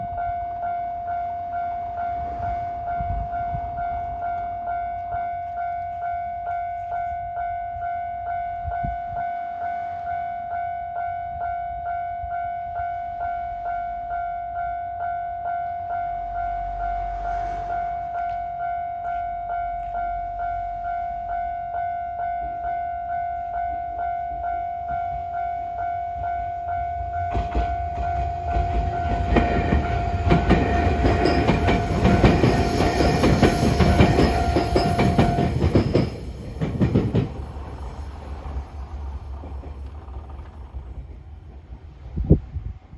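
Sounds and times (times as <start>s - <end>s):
level crossing warning bell: 0.0s - 36.9s
train rumble: 0.0s - 42.9s.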